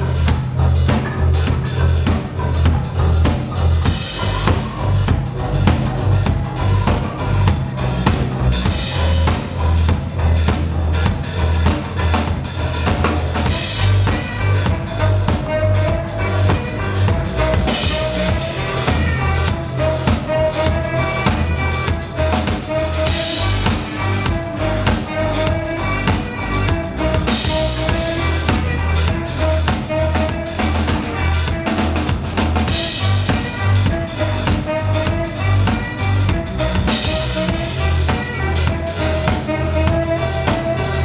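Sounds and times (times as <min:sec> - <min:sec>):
drum kit beat: 0:00.0 - 0:41.0
pulsing bass line: 0:00.0 - 0:41.0
saxophone: 0:00.0 - 0:41.0.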